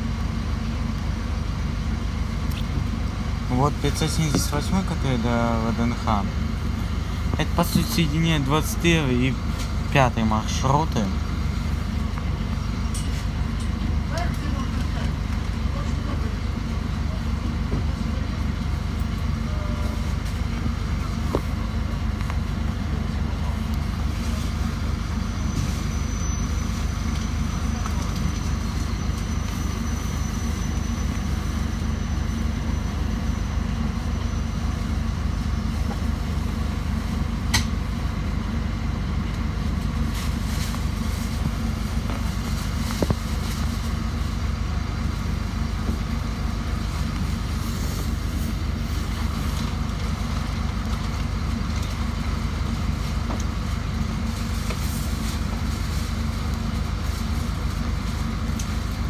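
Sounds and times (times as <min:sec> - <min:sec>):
idling minibuses and road traffic: 0:00.0 - 0:59.0.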